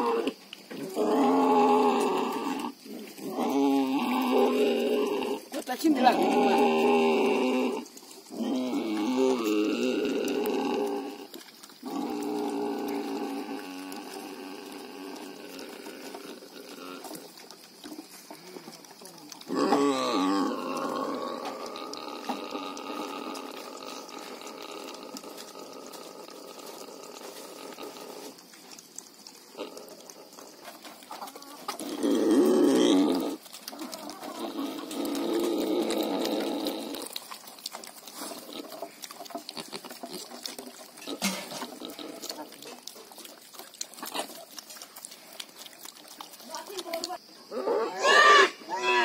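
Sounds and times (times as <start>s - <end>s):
pigs squealing: 0.0s - 17.2s, 19.3s - 28.4s, 31.1s - 49.0s.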